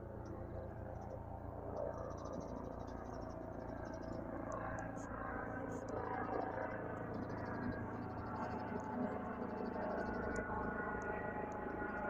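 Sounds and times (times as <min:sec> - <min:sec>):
distant helicopter drone: 0:00.0 - 0:12.0.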